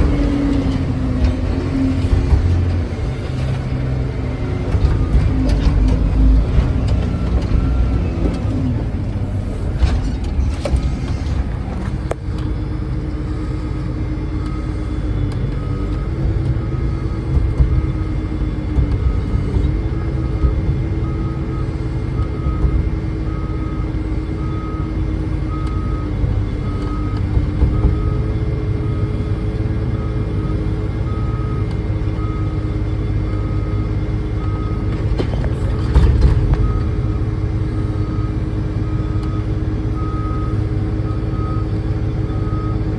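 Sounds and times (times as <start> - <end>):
diesel truck engine rumbling: 0.0 - 42.9.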